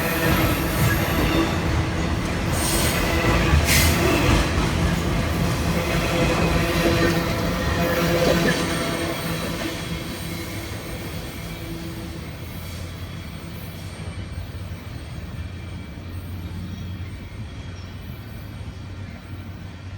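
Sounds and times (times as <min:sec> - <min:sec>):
freight train cars rolling past: 0:00.0 - 0:19.9.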